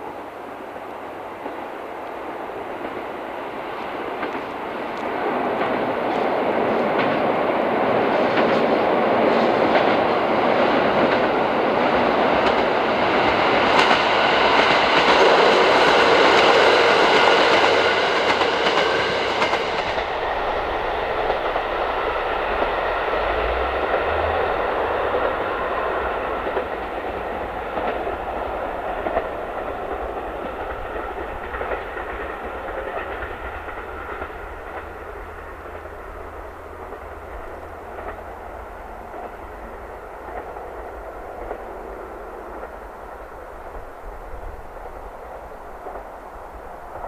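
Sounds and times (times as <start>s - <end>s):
train passing on rails: 0.0s - 47.0s
wheels clacking over rail joints: 3.7s - 41.8s.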